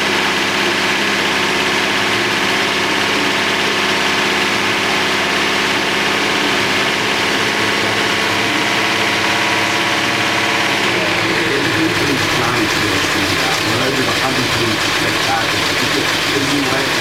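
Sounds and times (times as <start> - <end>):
engine idling: 0.0 - 17.0
person speaking: 0.0 - 17.0.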